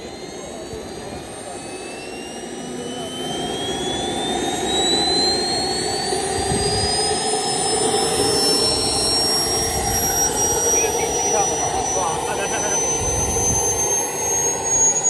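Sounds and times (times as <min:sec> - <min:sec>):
jet engine whine spooling up: 0:00.0 - 0:15.0
rushing exhaust noise: 0:01.8 - 0:15.0.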